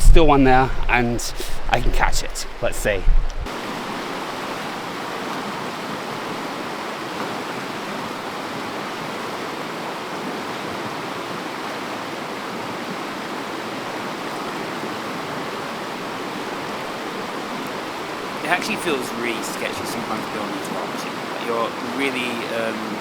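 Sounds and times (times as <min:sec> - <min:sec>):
river rushing over rocks: 0:03.5 - 0:23.0.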